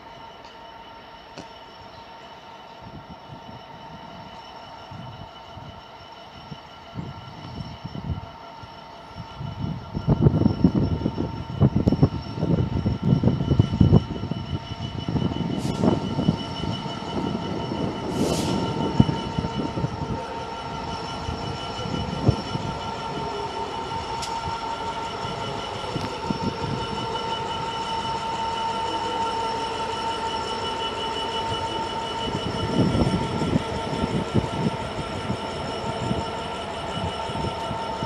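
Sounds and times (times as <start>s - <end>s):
train rumble with high tone: 0.0s - 38.0s.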